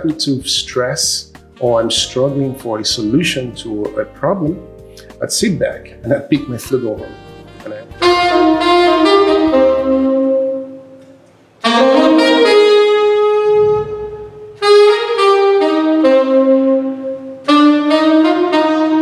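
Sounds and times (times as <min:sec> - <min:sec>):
flugelhorn slow melody: 0:01.0 - 0:04.8, 0:06.5 - 0:19.0.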